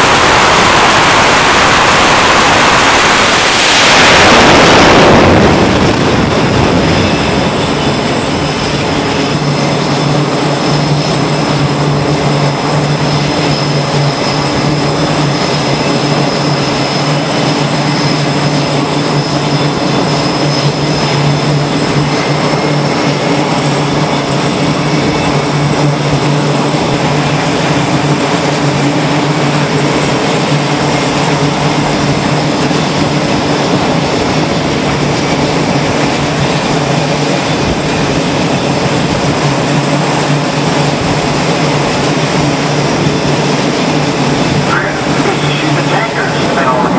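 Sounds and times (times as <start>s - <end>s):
aircraft engines droning: 0.0s - 46.9s
jet passing: 0.0s - 46.9s
low hum: 0.0s - 46.9s.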